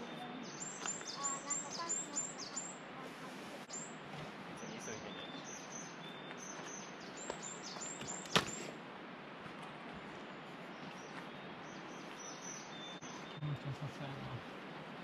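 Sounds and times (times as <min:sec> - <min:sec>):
birds calling: 0:00.0 - 0:08.8, 0:10.0 - 0:15.0.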